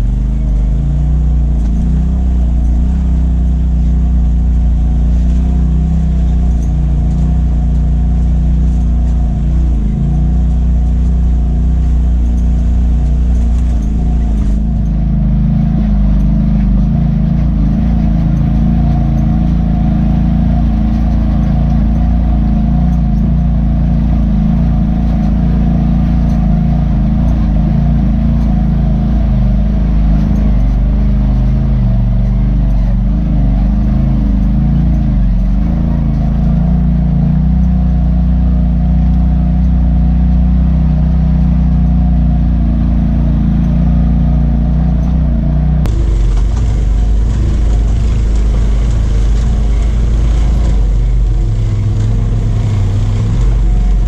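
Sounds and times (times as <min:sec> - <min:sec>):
vehicle engine running steadily: 0:00.0 - 0:54.0.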